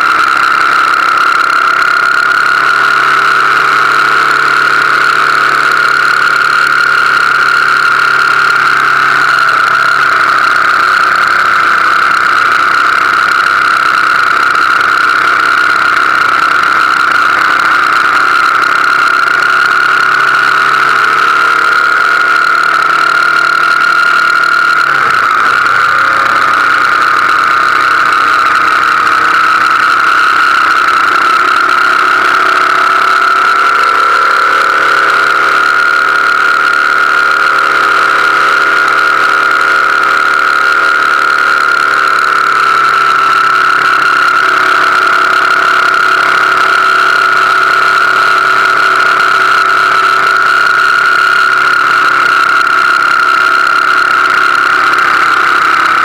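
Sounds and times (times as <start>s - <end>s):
loud high-pitched hum: 0.0s - 56.0s
motorcycle engine cruising: 0.0s - 56.0s.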